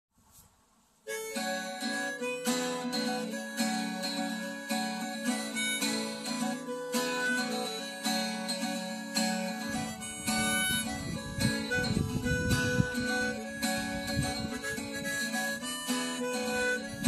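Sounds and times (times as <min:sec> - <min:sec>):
acoustic guitar strumming: 0:01.1 - 0:17.0
harmonica melody: 0:01.1 - 0:17.0.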